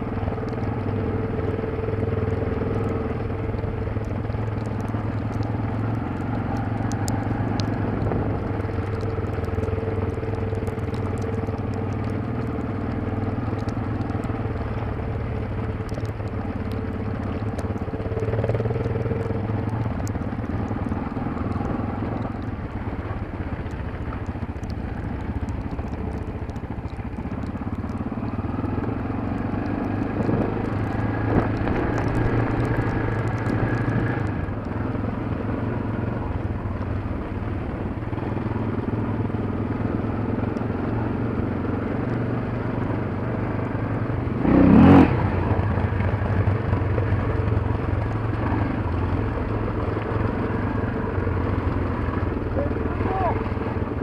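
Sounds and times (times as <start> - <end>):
trail motorbike engine: 0.0 - 54.0.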